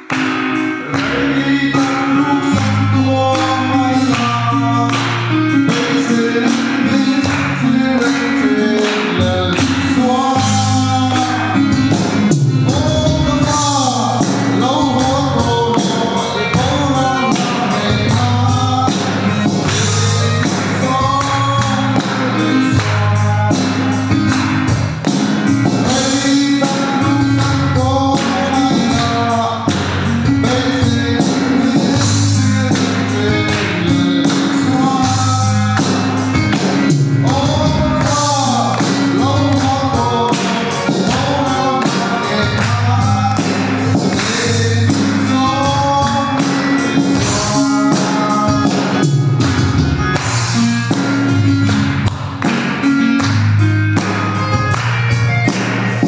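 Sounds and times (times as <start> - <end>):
man singing into microphone: 0.0 - 55.2
backing track with beat and bass: 0.0 - 56.0.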